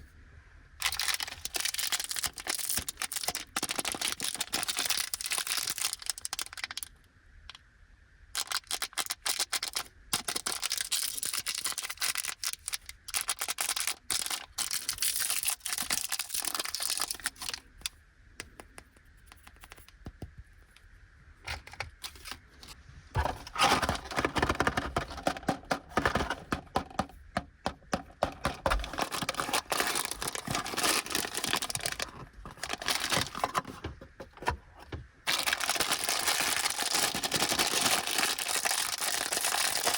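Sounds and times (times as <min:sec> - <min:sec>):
plastic wrappers crinkling: 0:00.8 - 0:06.9, 0:08.4 - 0:17.9, 0:21.5 - 0:27.2, 0:27.9 - 0:34.6, 0:35.3 - 0:39.9.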